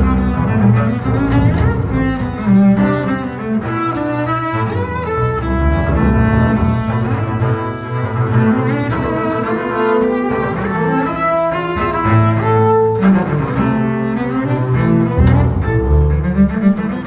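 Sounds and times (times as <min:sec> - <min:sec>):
bowed double bass duet: 0:00.0 - 0:17.0.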